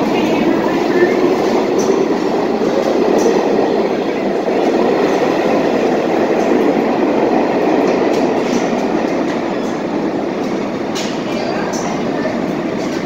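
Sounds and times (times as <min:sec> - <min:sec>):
subway train rolling: 0:00.0 - 0:13.0.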